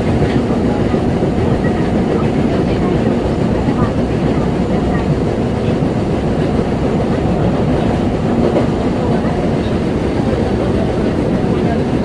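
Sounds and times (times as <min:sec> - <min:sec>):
subway wheels rumbling on rails: 0:00.0 - 0:12.0.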